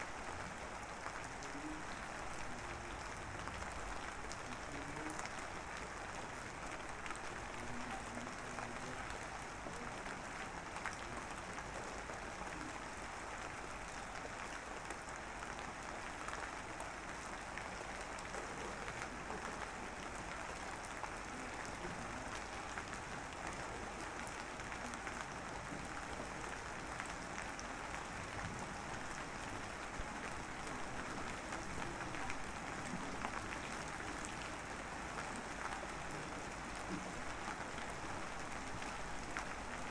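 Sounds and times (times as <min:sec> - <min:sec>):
drizzling rain pattering: 0:00.0 - 0:39.9.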